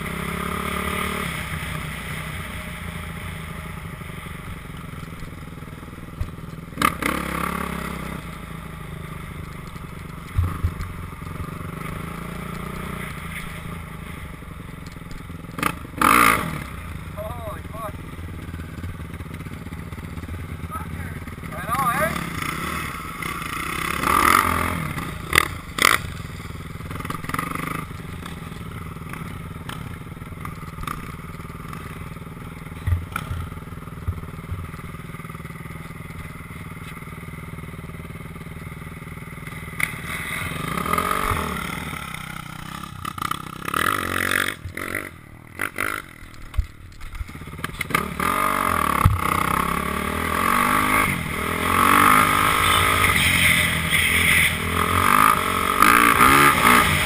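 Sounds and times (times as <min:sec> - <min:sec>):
dirt bike engine revving: 0:00.0 - 0:46.5, 0:47.2 - 0:57.0.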